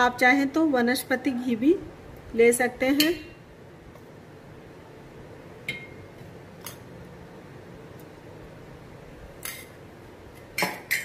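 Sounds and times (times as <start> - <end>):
faint steady background noise: 0.0 - 11.0.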